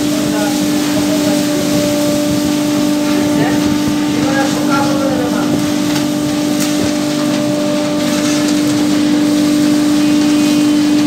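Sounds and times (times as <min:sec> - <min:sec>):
hose sucking up wood chips: 0:00.0 - 0:11.0
vacuum humming: 0:00.0 - 0:11.0.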